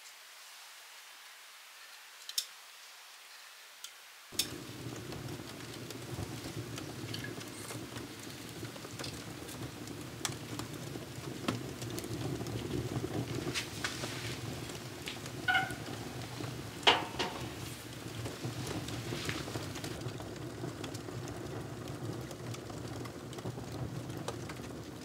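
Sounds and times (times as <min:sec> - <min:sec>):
wood fire crackling: 0:04.2 - 0:25.0.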